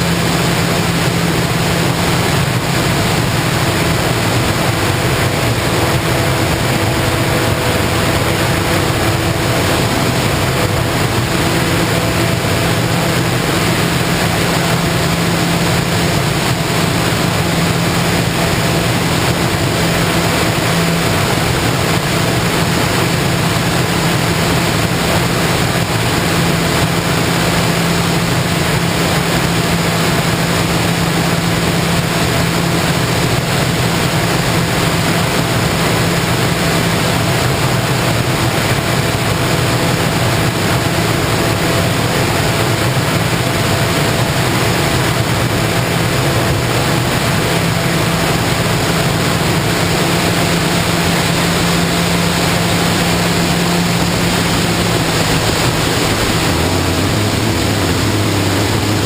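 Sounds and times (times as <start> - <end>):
airflow rushing: 0.0 - 59.0
model airplane motor droning: 0.0 - 59.0.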